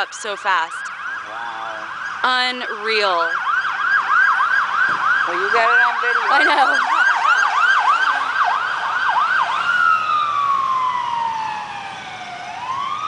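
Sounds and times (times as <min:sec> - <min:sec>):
emergency siren yelping and wailing: 0:00.0 - 0:13.0.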